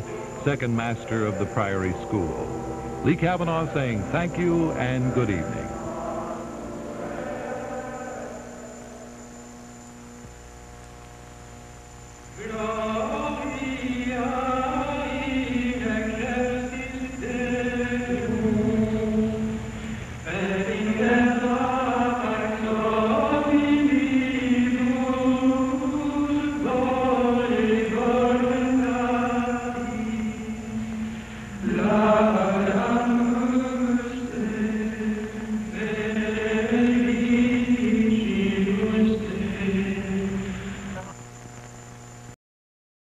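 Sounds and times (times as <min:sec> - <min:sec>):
choir singing: 0:00.0 - 0:09.2, 0:12.4 - 0:41.0
low steady hum: 0:00.0 - 0:42.4.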